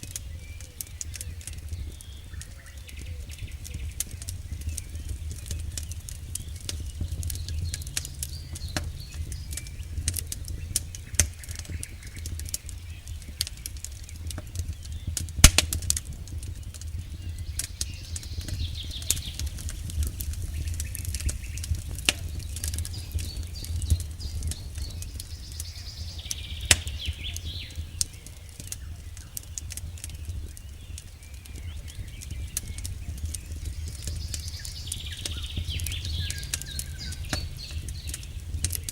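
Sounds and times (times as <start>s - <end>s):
campfire crackling: 0.0s - 38.9s
logs popping and snapping: 0.0s - 38.9s
steady low rumble: 0.0s - 38.9s.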